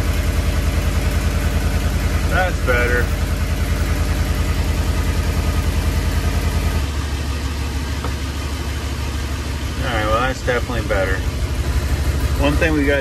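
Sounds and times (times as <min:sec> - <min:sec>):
engine running then idling: 0:00.0 - 0:13.0
exhaust leak: 0:00.0 - 0:13.0.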